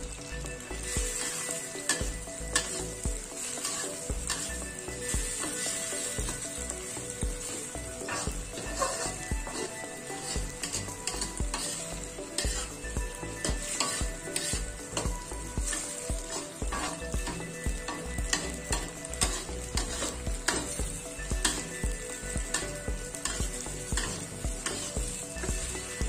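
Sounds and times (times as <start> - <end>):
food sizzling in hot oil: 0.0 - 26.0
spatula scraping a pan: 0.8 - 26.0.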